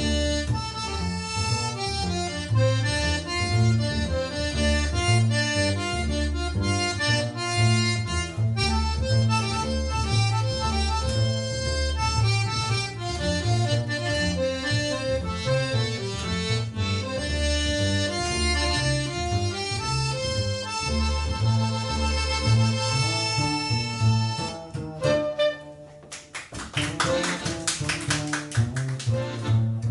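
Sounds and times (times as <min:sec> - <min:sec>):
accordion melody: 0:00.0 - 0:29.9
bass notes: 0:00.0 - 0:29.9
guitar: 0:00.0 - 0:29.9.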